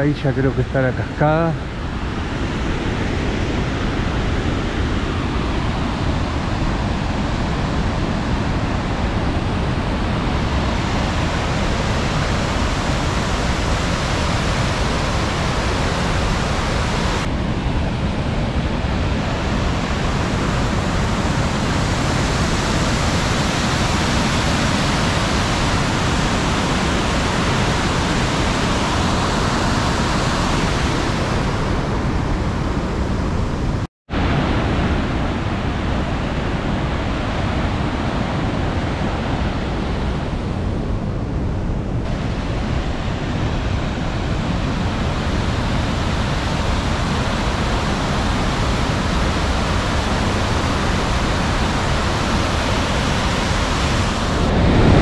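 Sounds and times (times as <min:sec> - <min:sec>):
waterfall and rapids rushing: 0:00.0 - 0:55.0.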